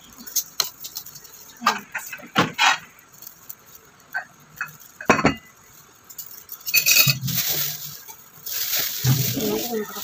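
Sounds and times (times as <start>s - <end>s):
rustling noise: 0.1s - 10.0s
spoons and dishes clinking: 0.1s - 10.0s.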